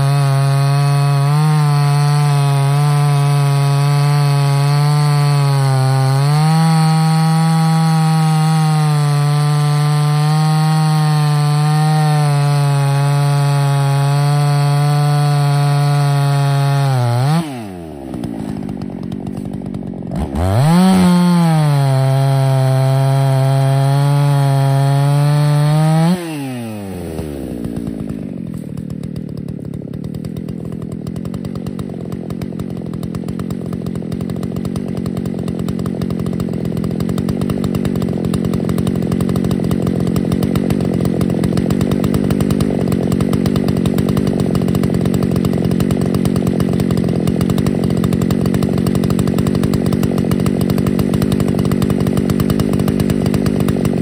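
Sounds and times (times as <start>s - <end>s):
chainsaw cutting wood: 0.0s - 54.0s
chainsaw idling: 0.0s - 54.0s.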